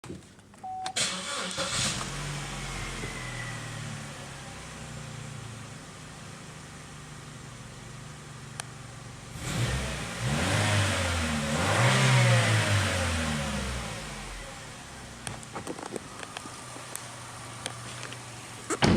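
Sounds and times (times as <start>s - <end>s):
car engine idling and revving: 1.0s - 18.8s.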